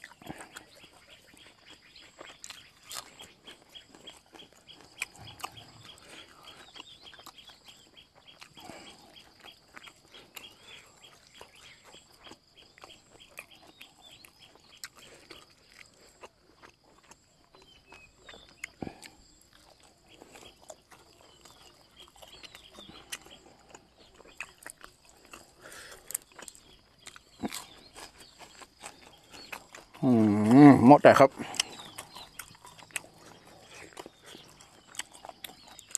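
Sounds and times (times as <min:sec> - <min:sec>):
mouth clicks: 0:00.0 - 0:35.9
quiet chewing: 0:00.0 - 0:35.9.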